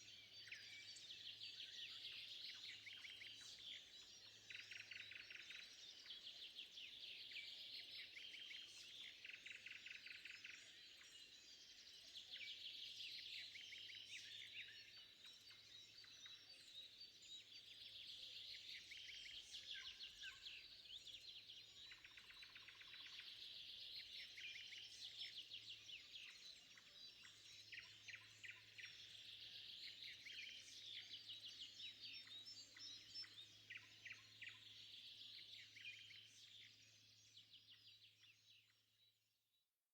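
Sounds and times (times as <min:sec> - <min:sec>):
songbirds singing and trilling: 0:00.0 - 0:39.2.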